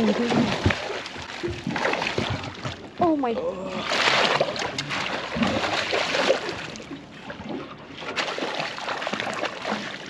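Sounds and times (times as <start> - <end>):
fish thrashing and water splashing: 0.0 - 10.0.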